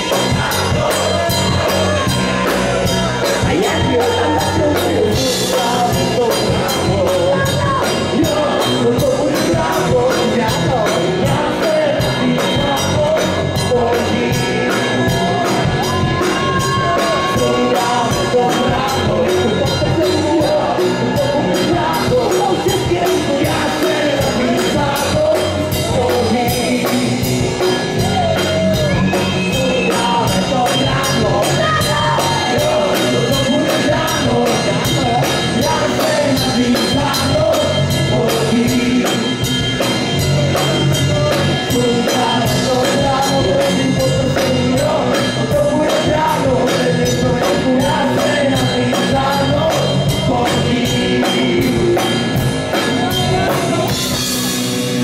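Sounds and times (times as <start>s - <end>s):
bass guitar: 0.0s - 55.0s
drum kit beat: 0.0s - 55.0s
electric guitar: 0.0s - 55.0s
man singing into a microphone: 0.0s - 55.0s.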